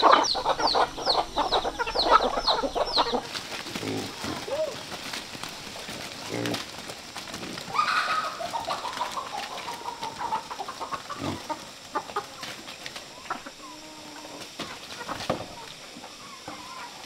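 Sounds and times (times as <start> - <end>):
long drawn-out chicken call: 0.0 - 5.0, 7.7 - 17.0
chickens clucking and calling: 0.0 - 17.0.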